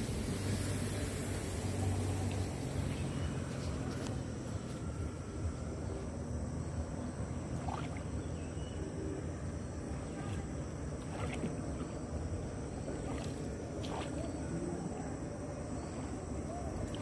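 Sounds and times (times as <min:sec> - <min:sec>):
boat engine rumble: 0:00.0 - 0:17.0
water noise of moving boat: 0:00.0 - 0:17.0.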